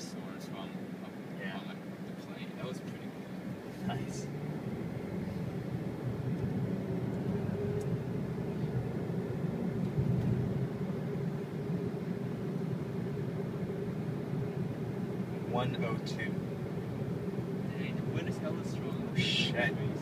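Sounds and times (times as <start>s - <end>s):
car engine and road noise: 0.0s - 20.0s
faint steady hum: 0.0s - 20.0s.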